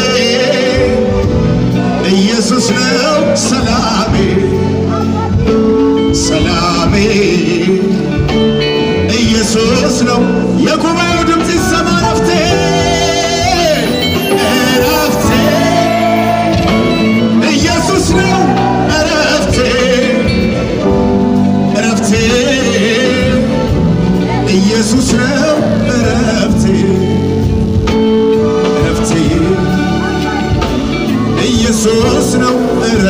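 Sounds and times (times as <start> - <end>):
live worship band with singing: 0.0 - 33.0.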